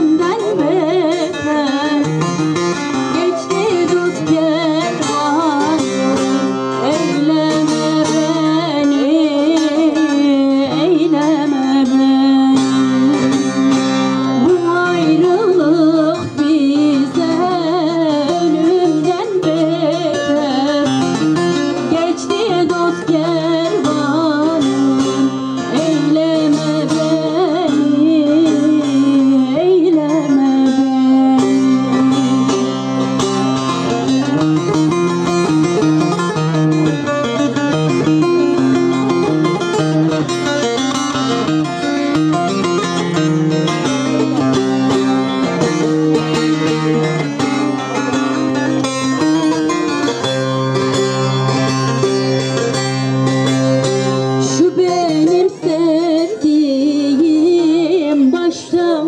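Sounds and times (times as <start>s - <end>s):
woman singing folk song: 0.0s - 47.6s, 54.3s - 59.0s
plucked stringed instrument: 0.0s - 59.0s.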